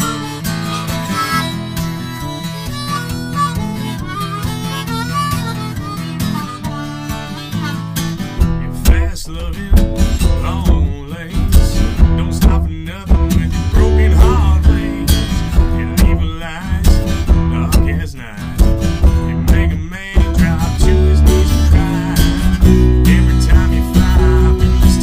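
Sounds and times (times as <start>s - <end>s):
acoustic guitar: 0.0s - 25.0s
harmonica: 0.0s - 25.0s.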